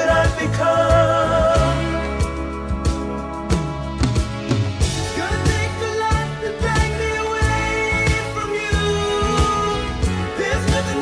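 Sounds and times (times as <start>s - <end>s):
pop song: 0.0s - 11.0s
steady drum beat: 0.0s - 11.0s.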